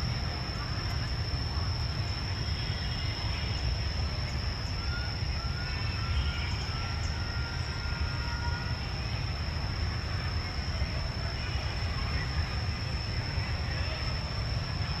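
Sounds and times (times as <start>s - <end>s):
faint whistle-like tones: 0.0s - 15.0s
high-pitched whine: 0.0s - 15.0s.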